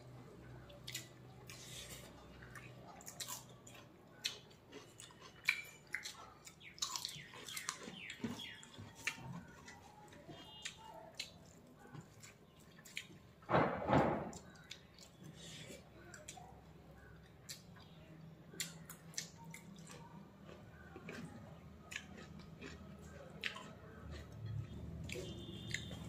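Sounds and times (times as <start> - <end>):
chewing and mouth smacks: 0.7 - 13.4, 14.3 - 26.0.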